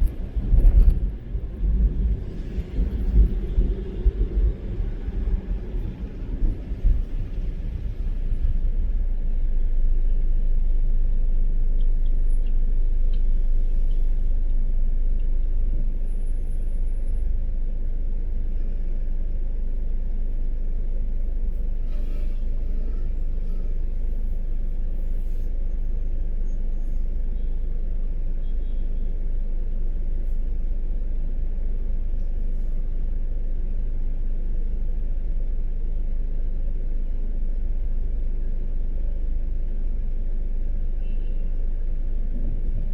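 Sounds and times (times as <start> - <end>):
car driving road rumble: 0.0 - 42.9.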